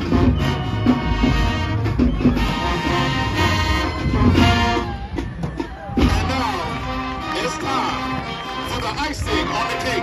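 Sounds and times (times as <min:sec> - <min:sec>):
drumline: 0:00.0 - 0:10.0
marching band brass: 0:00.0 - 0:10.0.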